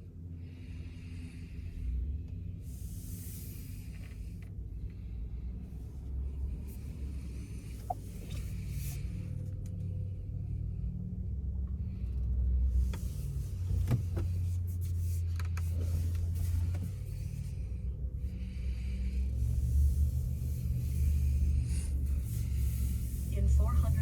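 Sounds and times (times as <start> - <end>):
road and tyre rumble: 0.0 - 24.0.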